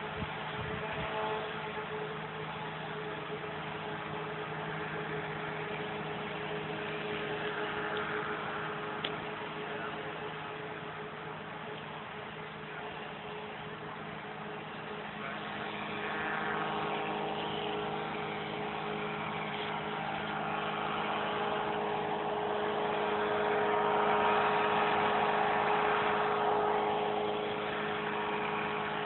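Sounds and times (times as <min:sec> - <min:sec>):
small aircraft engine droning: 0:00.0 - 0:29.0.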